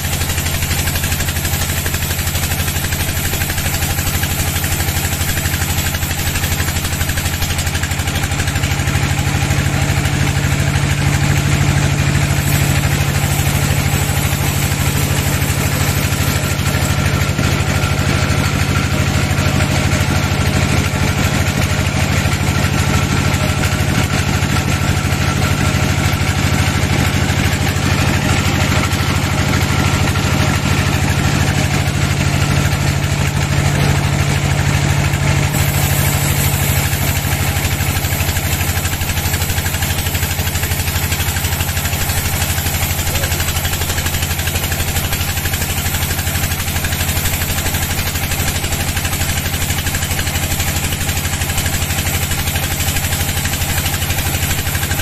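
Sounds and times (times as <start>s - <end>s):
saw blade cutting log: 0.0s - 55.0s
sawmill drive droning: 0.0s - 55.0s.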